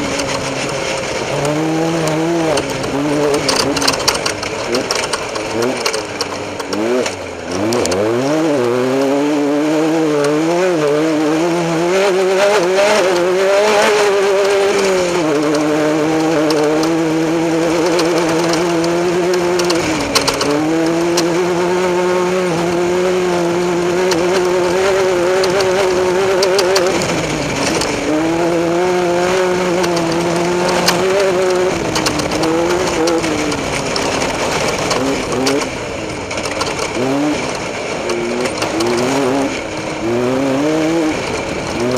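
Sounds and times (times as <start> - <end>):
race vehicle engine revving: 0.0 - 41.9
scattered clicks: 0.0 - 41.9.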